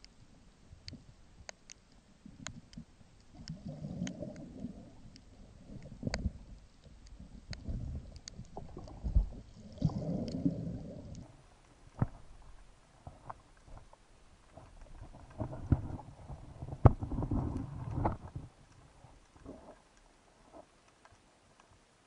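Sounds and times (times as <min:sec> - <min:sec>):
underwater water rumbling: 0:02.3 - 0:20.7.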